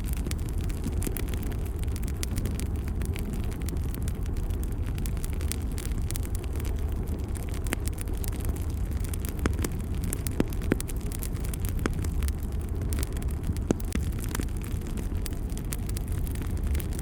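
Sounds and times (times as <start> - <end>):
fire crackles and pops: 0.0 - 17.0
fire rumble: 0.0 - 17.0.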